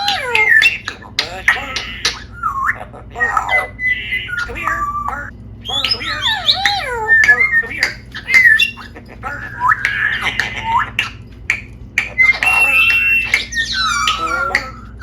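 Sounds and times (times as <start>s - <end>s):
parrot squawking and chattering: 0.0s - 15.0s
parrot whistle: 0.0s - 15.0s.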